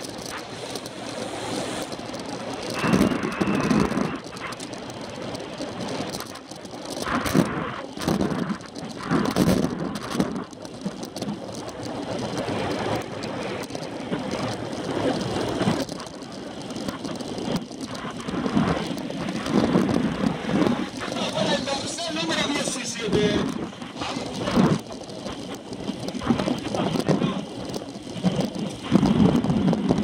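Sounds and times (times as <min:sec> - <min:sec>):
tyre and road noise: 0:00.0 - 0:30.0
wind buffeting microphone: 0:00.0 - 0:30.0.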